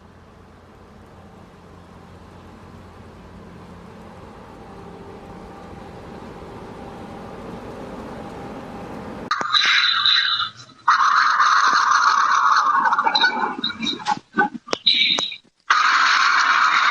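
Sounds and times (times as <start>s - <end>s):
vehicle and road noise: 0.0s - 16.9s.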